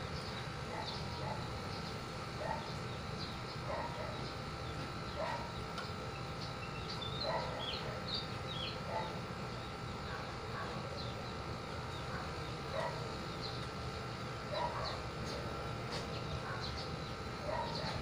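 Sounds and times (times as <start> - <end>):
small birds chirping: 0.0 - 18.0
steady low hum: 0.0 - 18.0
distant dog barks: 0.6 - 6.4, 7.1 - 11.2, 11.8 - 13.3, 14.3 - 18.0.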